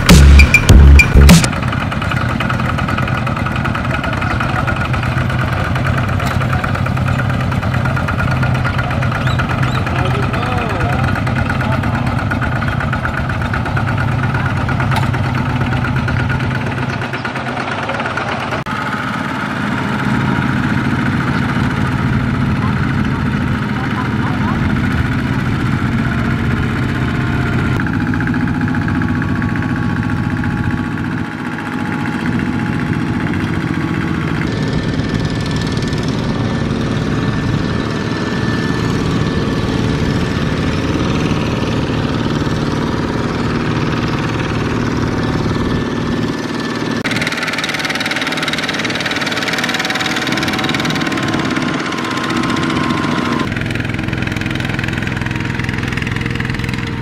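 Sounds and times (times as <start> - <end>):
diesel tractor engines running: 0.0 - 57.0.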